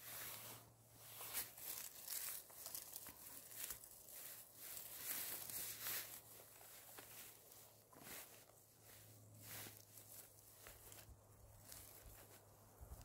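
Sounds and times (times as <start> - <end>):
rustling forest-floor vegetation: 0.0 - 13.0.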